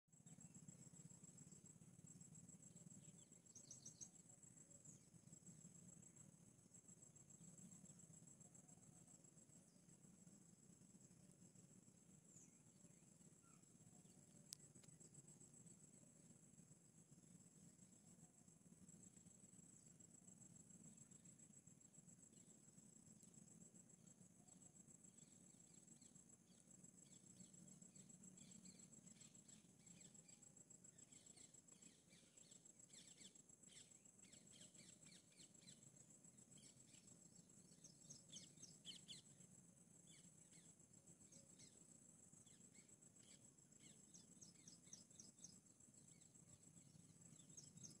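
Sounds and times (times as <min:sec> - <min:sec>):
high-pitched insect trill: 0:00.1 - 0:48.0.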